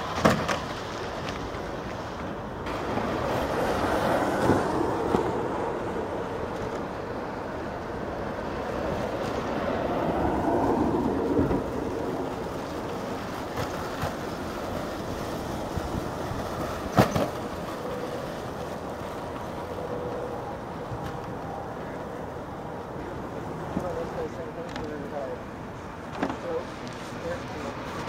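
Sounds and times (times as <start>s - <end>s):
tyres and drivetrain humming: 0.0s - 28.0s.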